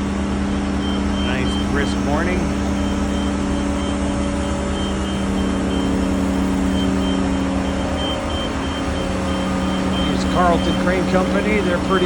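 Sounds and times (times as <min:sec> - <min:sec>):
crane engine running: 0:00.0 - 0:12.0
faint pulsing high tone: 0:00.0 - 0:12.0.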